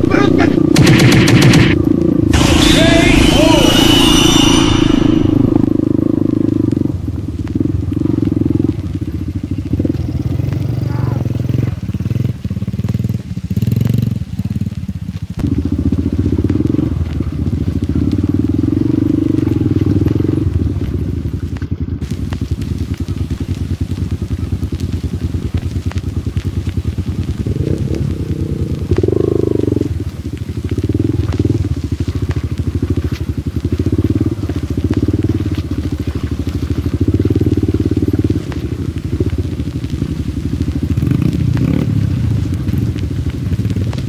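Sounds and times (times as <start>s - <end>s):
dirt bike engine at low revs: 0.0s - 44.0s.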